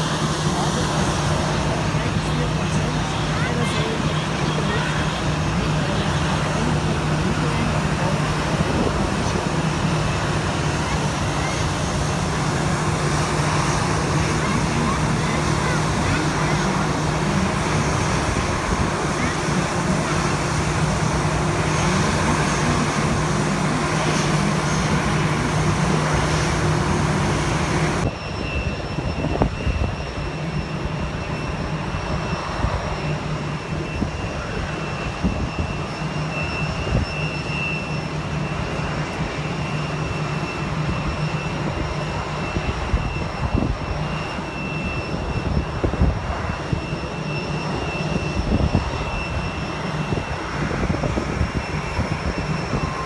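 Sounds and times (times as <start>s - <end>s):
aircraft engines whining: 0.0s - 53.0s.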